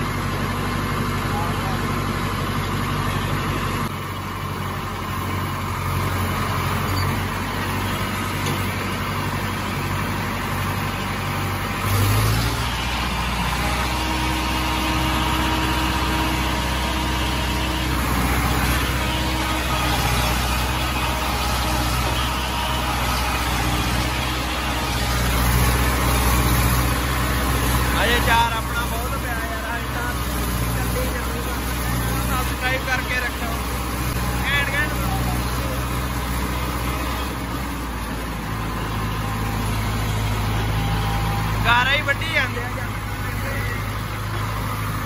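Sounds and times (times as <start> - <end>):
tractor diesel engine drone: 0.0 - 45.0.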